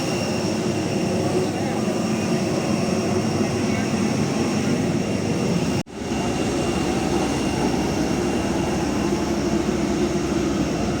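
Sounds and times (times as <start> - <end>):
airliner cabin engine rush: 0.0 - 11.0.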